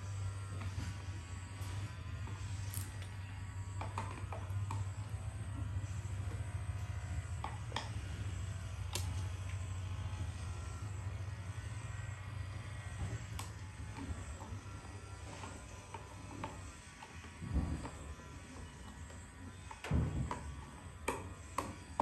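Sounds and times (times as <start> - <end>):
small electric motor humming: 0.0 - 22.0.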